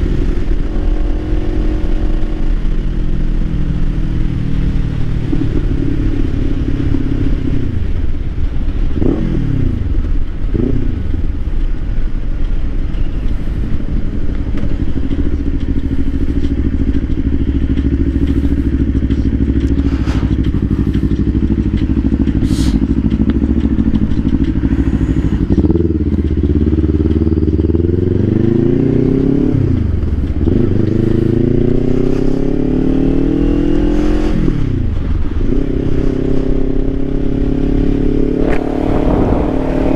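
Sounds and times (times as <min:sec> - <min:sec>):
motorcycle engine changing gears: 0:00.0 - 0:37.1, 0:37.7 - 0:39.9.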